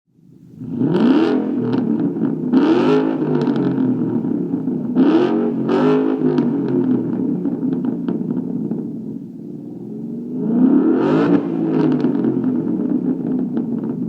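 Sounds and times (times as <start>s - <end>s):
car engine revving: 0.6s - 14.0s.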